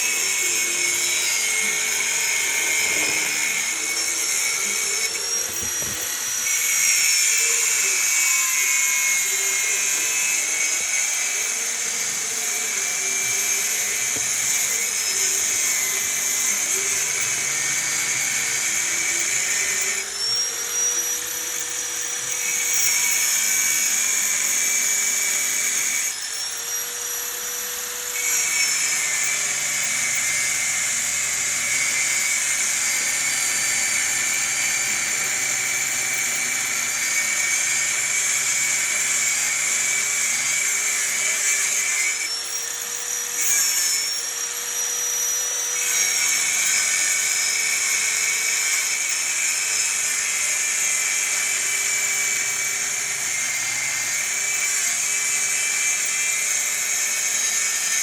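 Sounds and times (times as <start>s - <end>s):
high-speed power tool whining: 0.0s - 58.0s.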